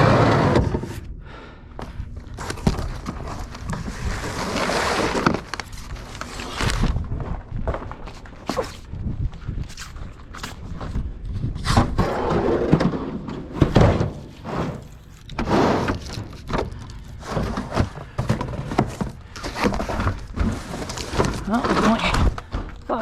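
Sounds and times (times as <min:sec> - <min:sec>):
panels scraping and rustling: 0:00.0 - 0:01.1, 0:02.3 - 0:07.1, 0:09.9 - 0:23.0.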